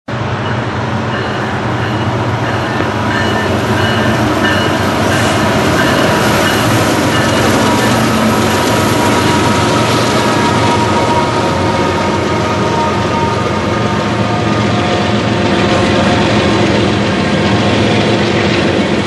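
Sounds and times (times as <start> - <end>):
freight train passing: 0.1 - 19.0
locomotive engines rumbling: 0.1 - 19.0.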